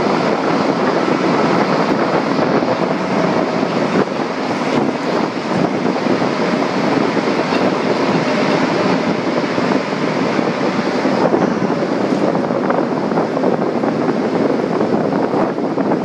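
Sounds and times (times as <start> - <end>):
train rolling rumble and hiss: 0.0 - 16.0.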